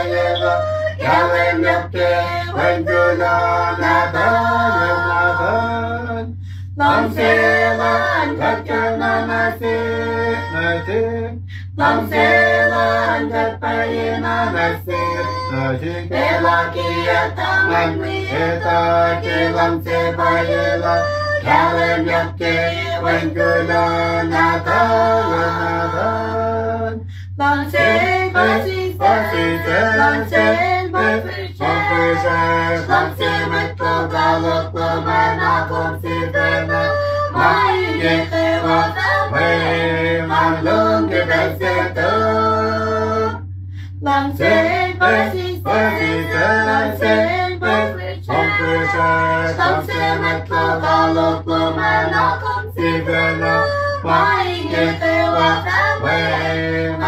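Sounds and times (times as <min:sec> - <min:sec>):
group singing unaccompanied: 0:00.0 - 0:43.4, 0:44.0 - 0:57.0
steady low hum: 0:00.0 - 0:57.0.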